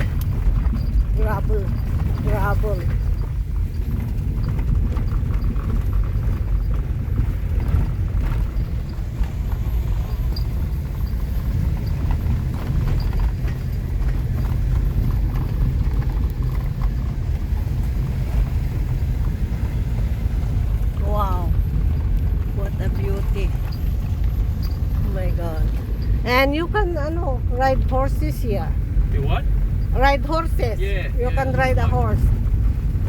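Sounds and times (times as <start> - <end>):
tyres rolling over gravel: 0.0 - 33.0.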